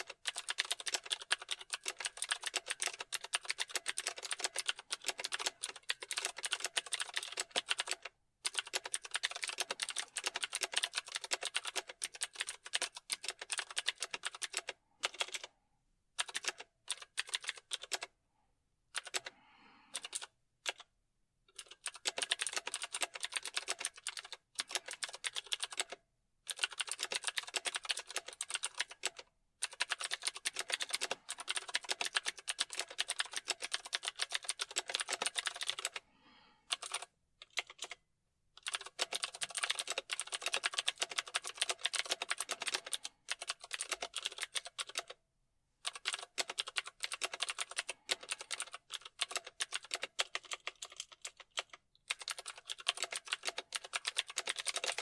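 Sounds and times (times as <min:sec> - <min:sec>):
typing on computer keyboard: 0:00.0 - 0:15.5, 0:16.2 - 0:18.1, 0:18.9 - 0:19.3, 0:19.9 - 0:20.9, 0:21.5 - 0:36.0, 0:36.7 - 0:38.0, 0:38.6 - 0:45.2, 0:45.8 - 0:55.0.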